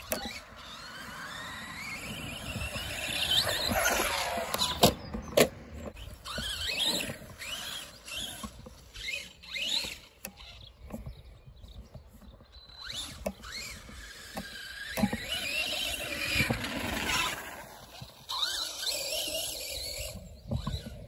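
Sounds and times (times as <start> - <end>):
toy truck electric motor whining: 0.0 - 21.0.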